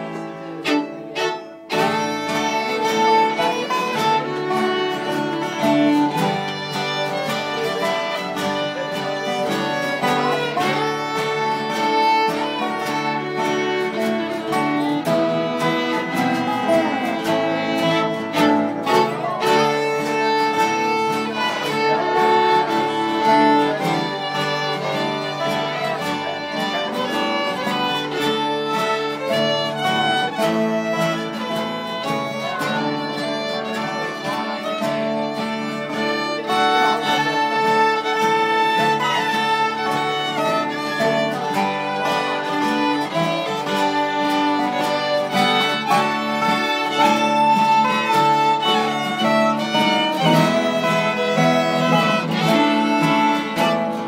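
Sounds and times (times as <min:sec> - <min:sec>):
acoustic guitar chords: 0:00.0 - 0:54.0
fiddle melody: 0:00.0 - 0:54.0.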